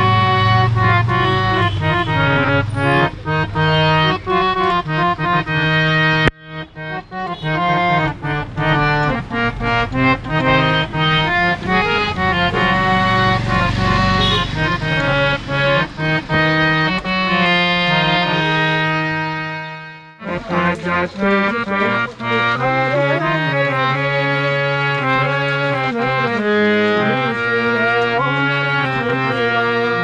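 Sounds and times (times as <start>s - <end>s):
harmonium playing melody: 0.0s - 30.0s.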